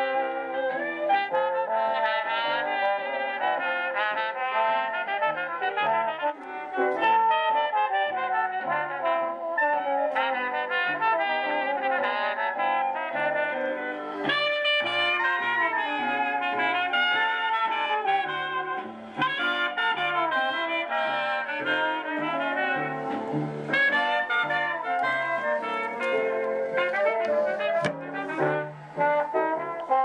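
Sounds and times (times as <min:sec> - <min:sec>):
brass jazz from record player: 0:00.0 - 0:30.0.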